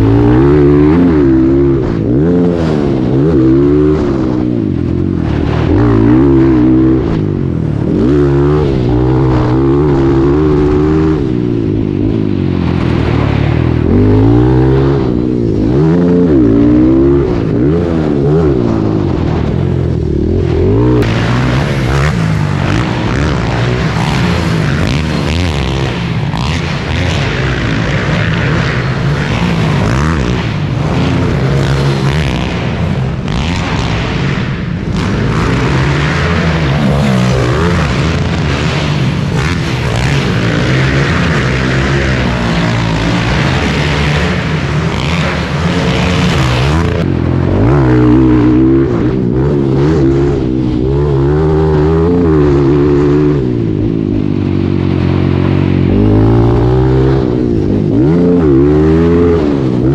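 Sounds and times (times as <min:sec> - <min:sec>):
pit bike engines revving: 0:00.0 - 0:59.9
steady rushing noise: 0:00.0 - 0:59.9.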